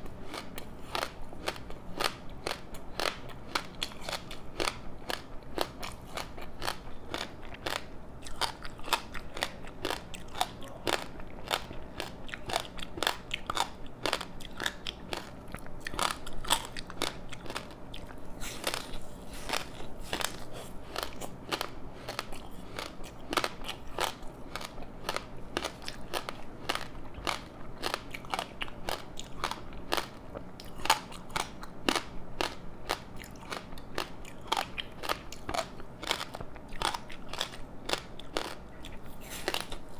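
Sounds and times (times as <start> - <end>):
crunchy snack being chewed: 0.0 - 39.9.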